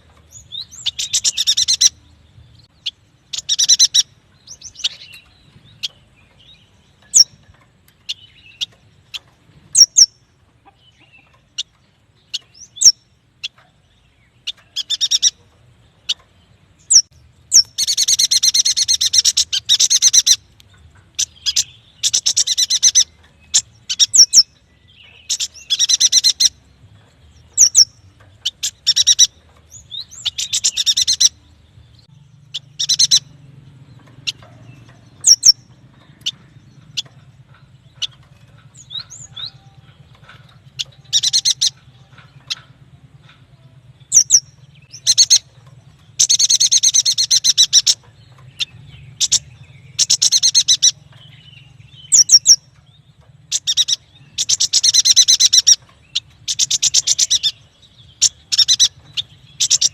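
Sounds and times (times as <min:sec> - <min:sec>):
bird trilling: 0:00.0 - 0:02.0, 0:02.7 - 0:13.7, 0:14.4 - 0:16.2, 0:16.8 - 0:26.7, 0:27.4 - 0:31.5, 0:32.4 - 0:59.9
bird chirps: 0:00.0 - 0:59.9.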